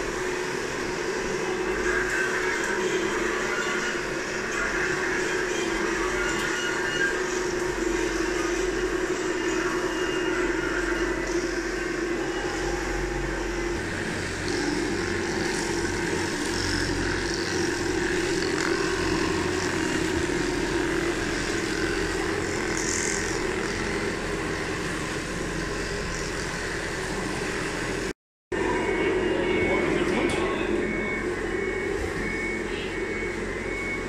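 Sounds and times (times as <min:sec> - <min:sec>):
small motors whirring: 0:00.0 - 0:27.9.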